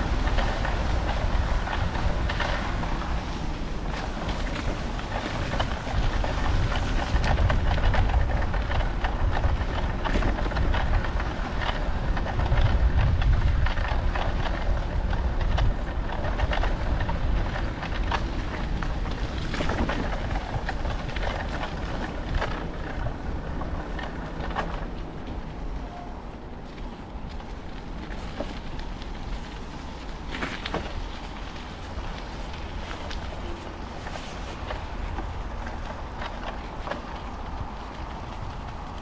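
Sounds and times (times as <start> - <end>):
bike clicks and rattles: 0.0 - 39.0
low wind rumble on microphone: 0.0 - 39.0.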